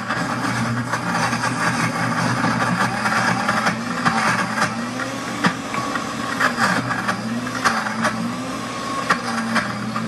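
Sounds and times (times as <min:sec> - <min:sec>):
blender grinding nuts: 0:00.0 - 0:10.0.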